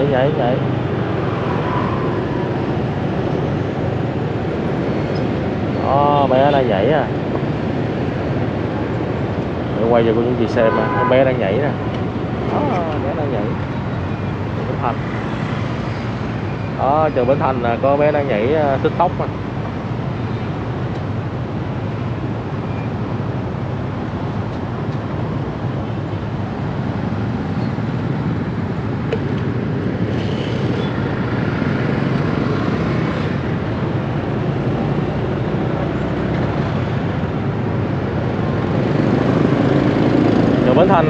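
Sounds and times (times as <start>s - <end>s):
street traffic rumble: 0.0s - 41.0s.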